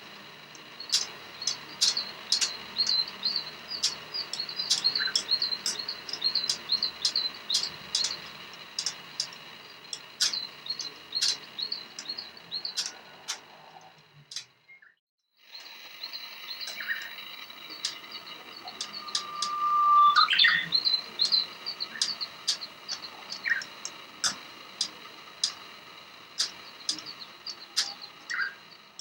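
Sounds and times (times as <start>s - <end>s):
sharp clicks: 0.1s - 14.6s, 15.6s - 29.0s
budgerigar chirping: 0.8s - 13.4s, 16.0s - 25.6s, 26.4s - 28.7s.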